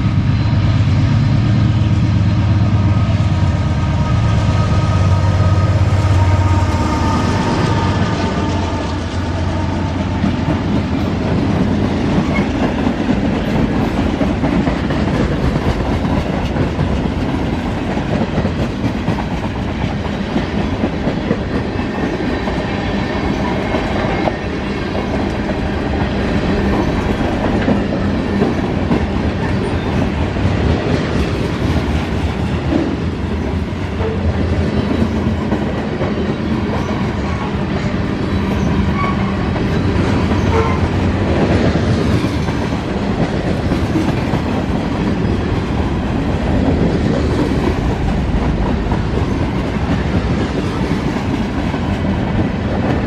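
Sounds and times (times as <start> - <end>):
train wheels rumbling on rail: 0.0 - 53.0
clickety-clack over rail joints: 7.3 - 53.0.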